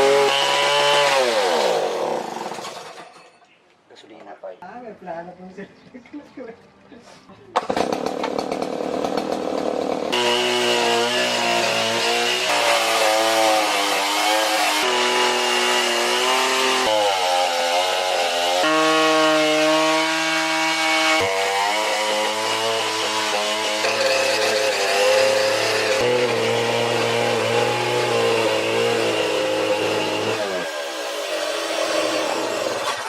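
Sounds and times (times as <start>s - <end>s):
chainsaw cutting wood: 0.0s - 3.2s, 7.6s - 33.0s.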